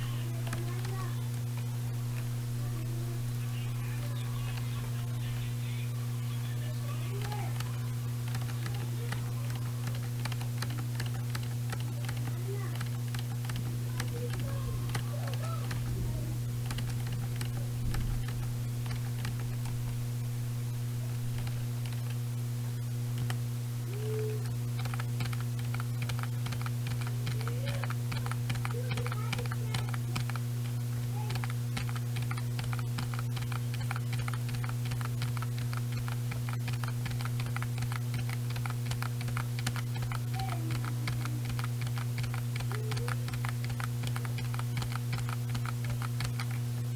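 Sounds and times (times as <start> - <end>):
keyboard typing clicks: 0.0 - 2.3, 4.0 - 5.5, 7.1 - 16.0, 16.6 - 20.0, 21.3 - 22.2, 23.1 - 46.7
low electrical hum: 0.0 - 46.9.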